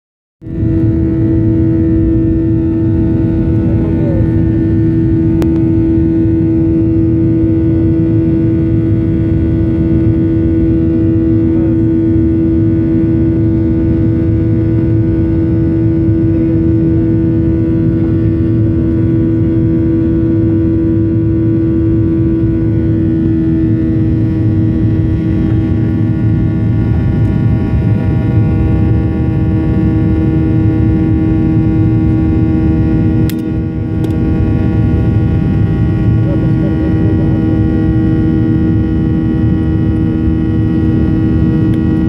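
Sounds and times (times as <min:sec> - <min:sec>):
jet engines droning in cabin: 0:00.4 - 0:42.0.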